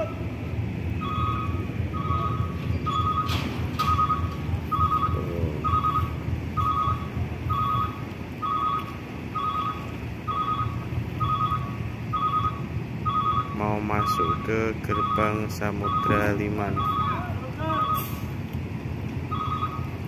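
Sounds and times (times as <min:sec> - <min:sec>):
low engine rumble: 0:00.0 - 0:20.0
truck reversing alarm beeping: 0:00.0 - 0:20.0.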